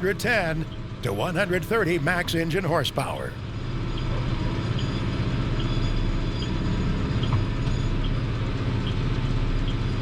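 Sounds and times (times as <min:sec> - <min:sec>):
diesel tractor engine rumbling: 0:00.0 - 0:10.0.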